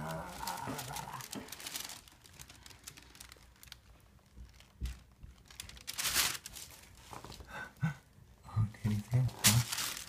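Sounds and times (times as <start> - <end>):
paper crinkling and rustling: 0.0 - 7.5, 8.9 - 10.0.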